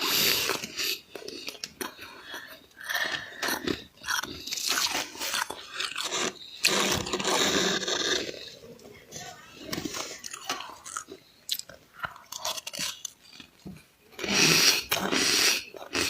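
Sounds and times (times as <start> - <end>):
frost being chewed and crunching: 0.0 - 8.6, 9.7 - 16.0.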